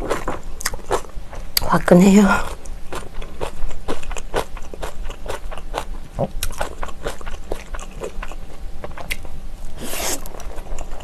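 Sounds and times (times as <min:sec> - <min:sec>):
person chewing noodles: 0:00.0 - 0:01.1, 0:02.4 - 0:11.0.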